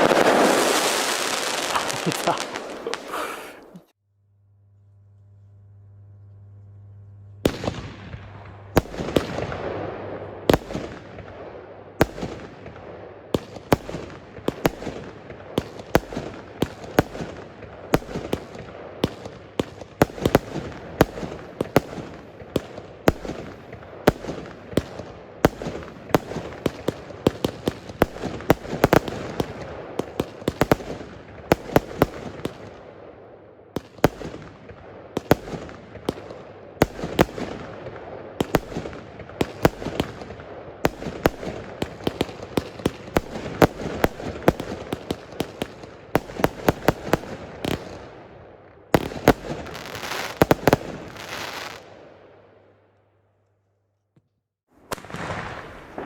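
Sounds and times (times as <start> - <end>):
firework bangs: 0.0 - 3.9, 7.4 - 52.1, 54.8 - 56.0
firework crackling: 0.0 - 3.9, 7.3 - 33.0, 33.8 - 48.3, 48.9 - 51.9.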